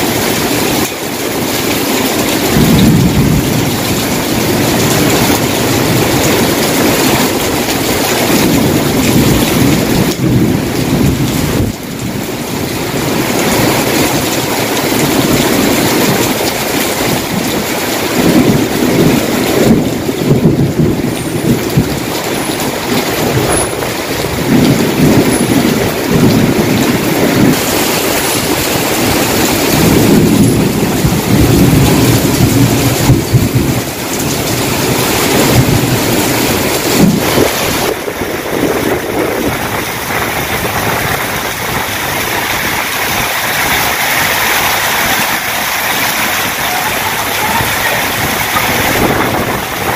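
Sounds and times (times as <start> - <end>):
heavy rain on pavement and vehicles: 0.0 - 49.9.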